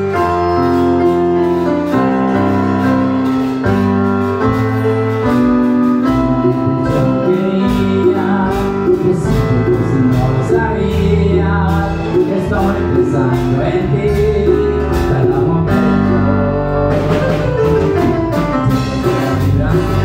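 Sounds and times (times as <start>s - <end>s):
bass line: 0.0s - 20.0s
electric keyboard: 0.0s - 20.0s.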